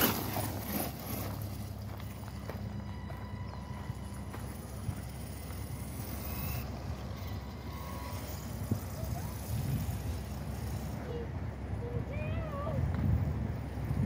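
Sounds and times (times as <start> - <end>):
toy truck motors rumbling: 0.0 - 14.0.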